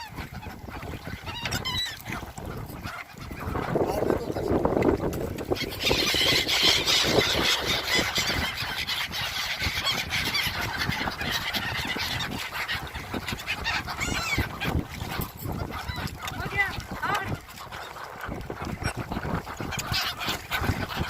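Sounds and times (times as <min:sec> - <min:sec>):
flock of birds calling: 0:00.0 - 0:21.0.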